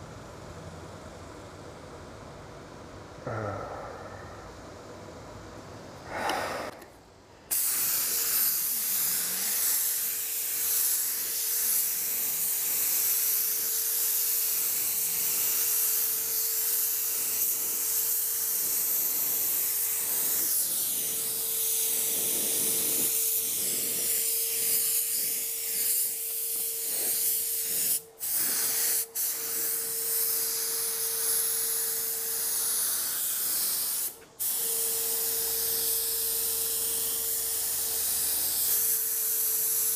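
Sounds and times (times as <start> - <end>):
spray gun hissing: 7.5 - 39.9.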